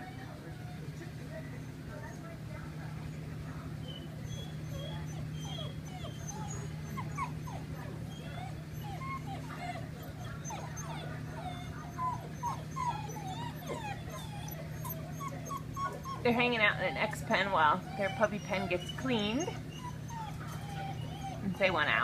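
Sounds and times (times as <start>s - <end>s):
puppies whining and whimpering: 0.0s - 1.8s, 3.8s - 22.0s.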